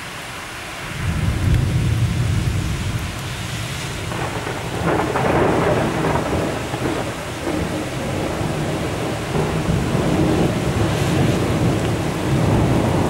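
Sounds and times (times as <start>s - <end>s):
steady rain: 0.0s - 13.0s
thunder rumbling: 1.0s - 13.0s.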